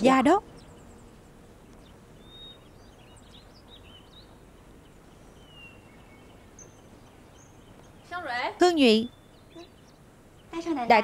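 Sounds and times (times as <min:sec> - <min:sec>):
bird chirps: 0:00.0 - 0:11.0
faint background ambience: 0:00.0 - 0:11.0.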